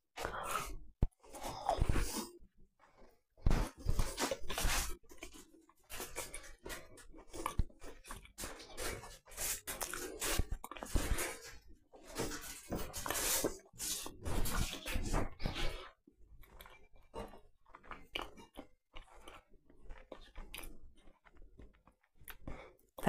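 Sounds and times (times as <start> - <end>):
person chewing biscuit: 0.2 - 22.9.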